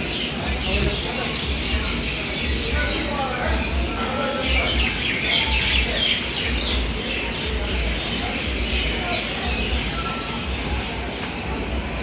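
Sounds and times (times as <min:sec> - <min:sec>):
faint voices: 0:00.0 - 0:12.0
small birds chirping: 0:00.0 - 0:12.0.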